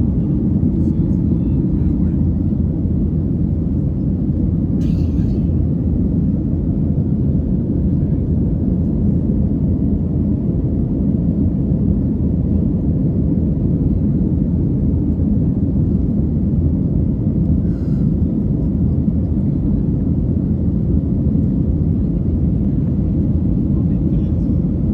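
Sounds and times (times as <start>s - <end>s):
airliner cabin drone: 0.0s - 24.9s.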